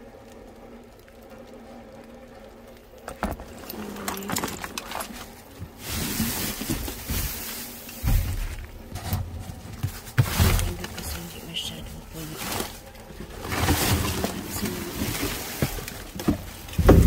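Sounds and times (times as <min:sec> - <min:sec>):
heavy rain hiss: 0:00.0 - 0:17.0
plastic bags and boxes rustling: 0:02.6 - 0:17.0.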